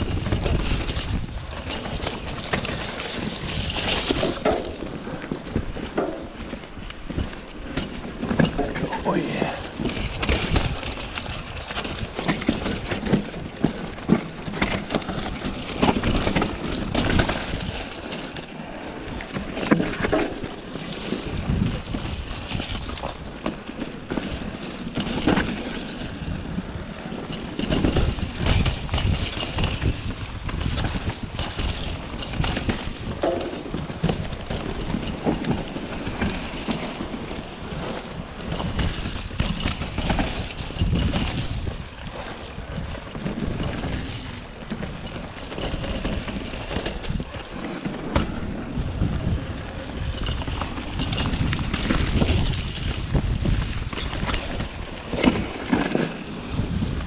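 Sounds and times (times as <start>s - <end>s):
wind buffeting camera: 0.0s - 57.0s.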